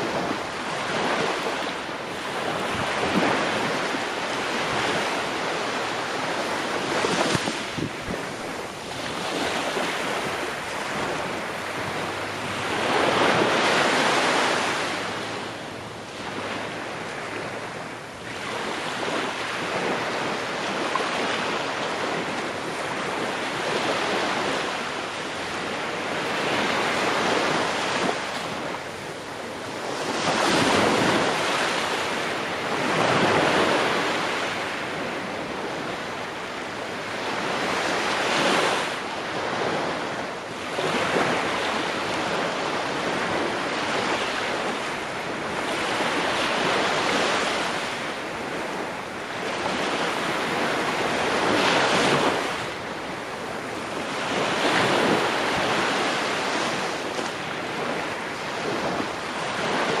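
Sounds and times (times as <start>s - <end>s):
ocean waves breaking on shore: 0.0s - 60.0s
wind: 0.0s - 60.0s.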